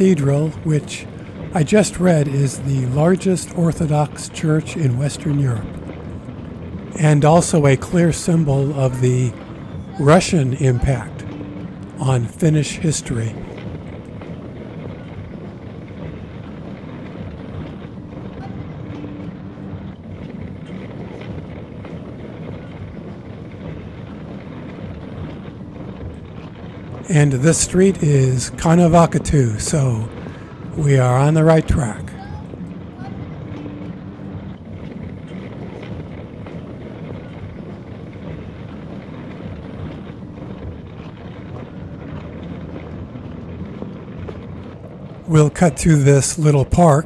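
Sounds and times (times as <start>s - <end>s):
car traffic passing: 0.0s - 47.0s
faint street noise: 0.0s - 47.0s
wind rumble on microphone: 0.0s - 47.0s.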